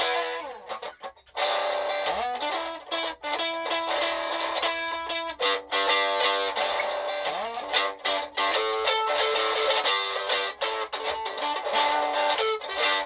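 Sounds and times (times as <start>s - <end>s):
electric guitar blues lick: 0.0s - 13.0s
looped guitar part: 0.0s - 13.0s.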